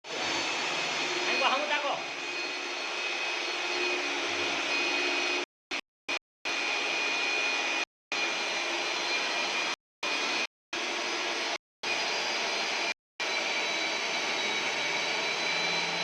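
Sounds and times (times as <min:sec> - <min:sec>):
machine whir with high whine: 0:00.1 - 0:05.8, 0:06.5 - 0:16.0.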